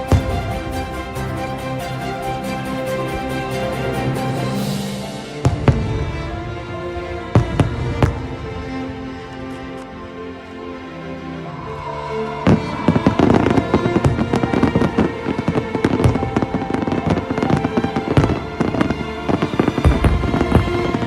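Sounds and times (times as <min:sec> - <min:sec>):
music playing: 0:00.0 - 0:21.0.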